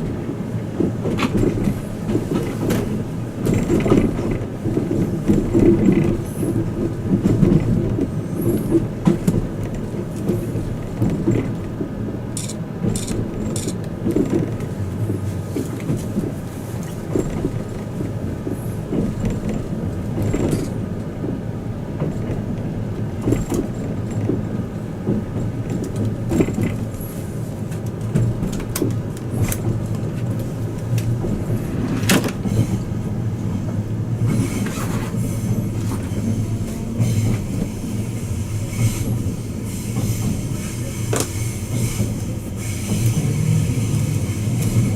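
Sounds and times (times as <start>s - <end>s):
train wheels rumbling: 0.0s - 44.9s.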